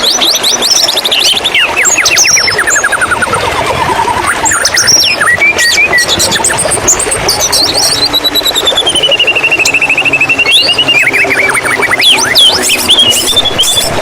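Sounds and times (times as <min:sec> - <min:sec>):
bird singing whistles and trills: 0:00.0 - 0:03.4, 0:04.0 - 0:14.0
flowing water: 0:00.0 - 0:14.0.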